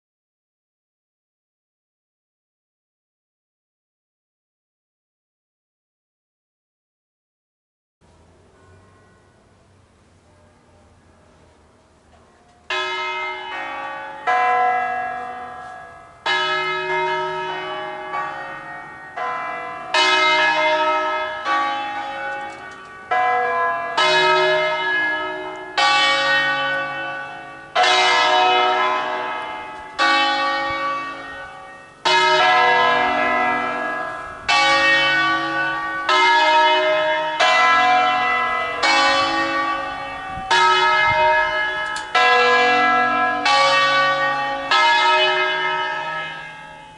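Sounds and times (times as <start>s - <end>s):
church bells ringing: 8.1s - 46.9s.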